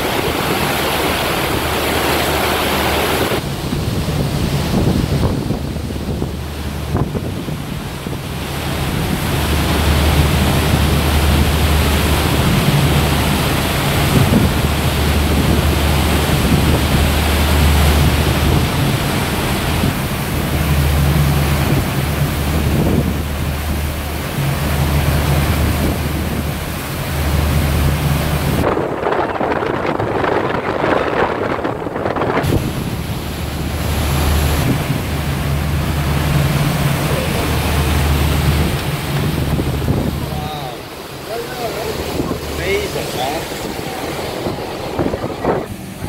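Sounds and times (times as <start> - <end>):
rushing white water of boat wake: 0.0 - 46.0
wind buffeting microphone: 0.0 - 46.0.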